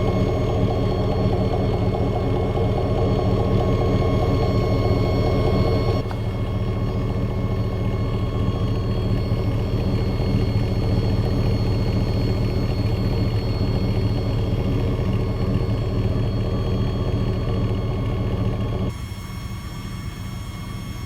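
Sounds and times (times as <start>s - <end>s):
engine exhaust drone: 0.0s - 21.0s.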